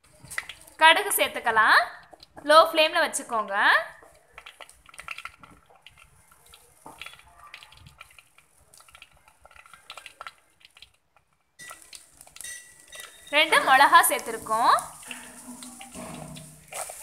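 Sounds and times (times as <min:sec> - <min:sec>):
oil sizzling with crackles: 0:00.0 - 0:17.0.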